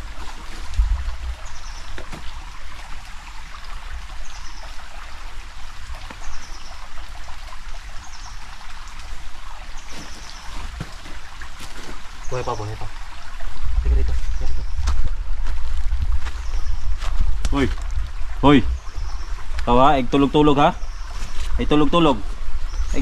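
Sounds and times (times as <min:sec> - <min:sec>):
creek trickling over stones: 0:00.0 - 0:23.0.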